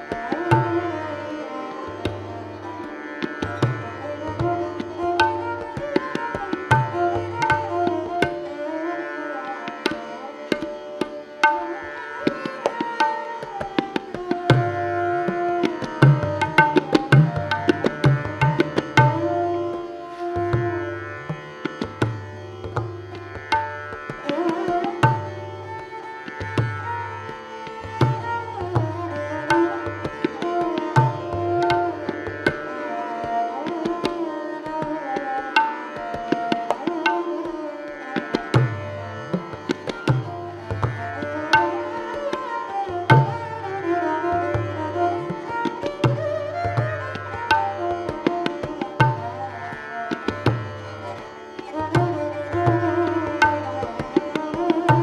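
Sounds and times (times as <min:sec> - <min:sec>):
tabla drumming: 0:00.0 - 0:08.8, 0:09.4 - 0:55.0
bowed string instrument melody: 0:00.0 - 0:55.0.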